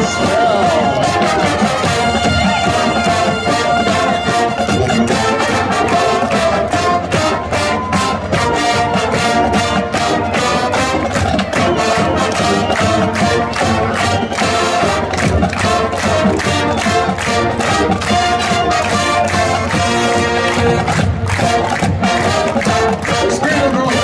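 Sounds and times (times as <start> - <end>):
brass section: 0.0 - 24.0
drums keeping steady beat: 0.0 - 24.0
marching band playing: 0.0 - 24.0.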